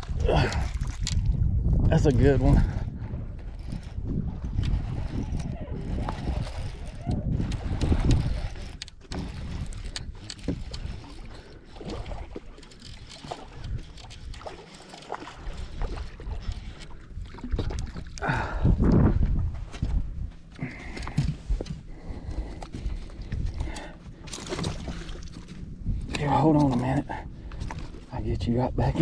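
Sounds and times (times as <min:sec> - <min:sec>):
low rumbles: 0:00.0 - 0:14.5, 0:15.3 - 0:29.0.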